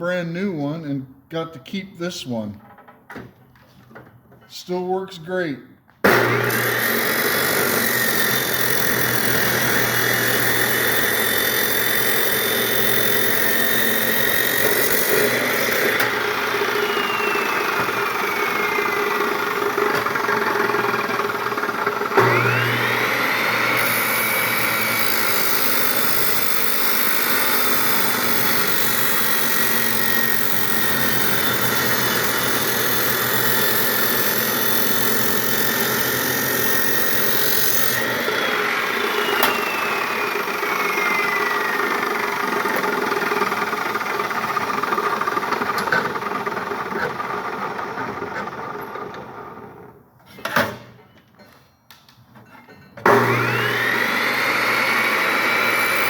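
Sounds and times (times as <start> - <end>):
chop saw whining and cutting: 6.0 - 49.8, 53.0 - 56.0.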